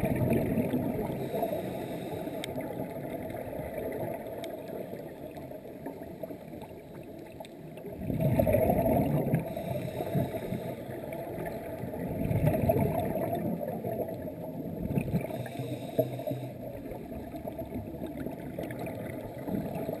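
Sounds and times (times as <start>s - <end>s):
underwater bubbles gurgling: 0.0s - 20.0s.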